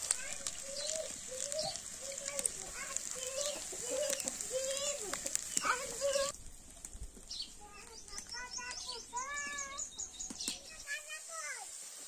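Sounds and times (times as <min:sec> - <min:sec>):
oil sizzling: 0:00.0 - 0:12.0
wood fire crackling: 0:00.0 - 0:12.0.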